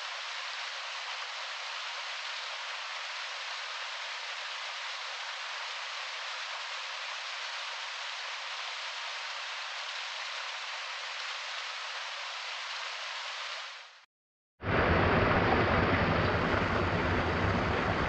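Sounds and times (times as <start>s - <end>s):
heavy rain on a window: 0.0s - 13.9s, 14.6s - 18.0s.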